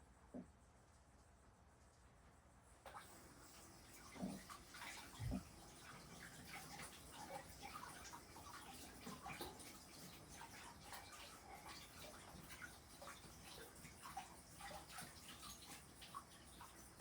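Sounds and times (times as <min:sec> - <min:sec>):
water splashing in sink: 0:02.9 - 0:17.0.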